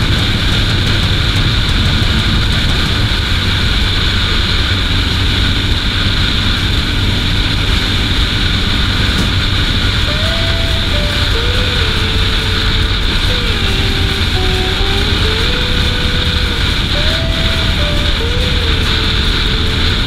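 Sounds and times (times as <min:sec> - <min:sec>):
motorcycle engine running: 0:00.0 - 0:20.0
wind on microphone: 0:00.0 - 0:20.0.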